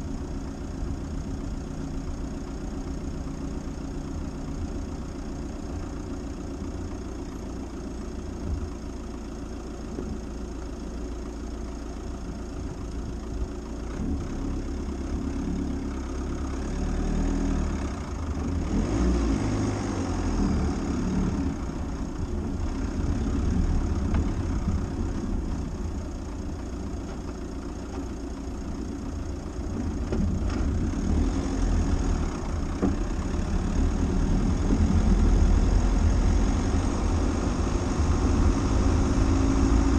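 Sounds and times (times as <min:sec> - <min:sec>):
engine and tyre rumble: 0:00.0 - 0:39.9.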